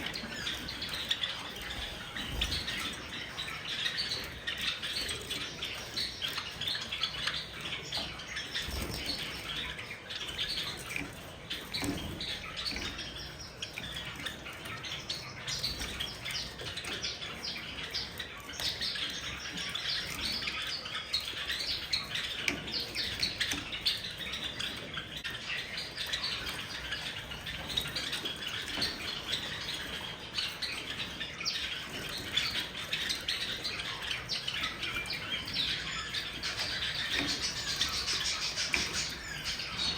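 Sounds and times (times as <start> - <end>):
sparrows chirping: 0.0 - 39.9
wings fluttering and splashing: 0.0 - 39.9.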